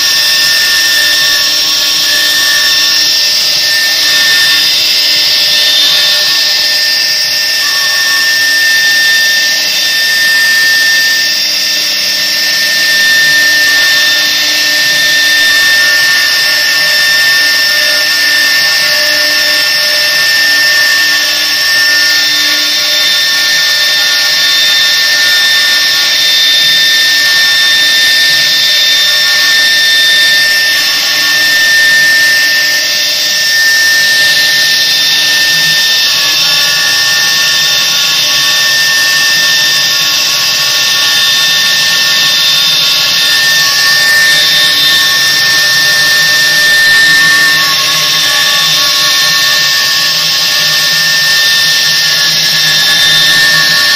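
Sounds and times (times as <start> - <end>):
router high-pitched whine: 0.0 - 53.9.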